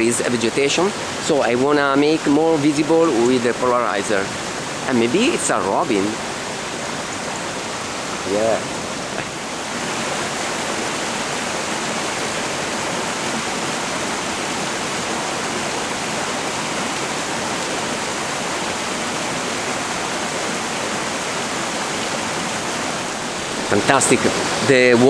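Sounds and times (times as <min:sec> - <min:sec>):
stream rushing over cascade: 0:00.0 - 0:25.0.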